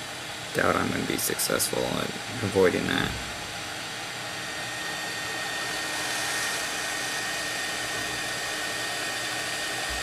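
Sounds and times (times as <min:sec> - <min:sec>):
high steady whine: 0:00.0 - 0:10.0
hot air blower rushing: 0:00.0 - 0:10.0.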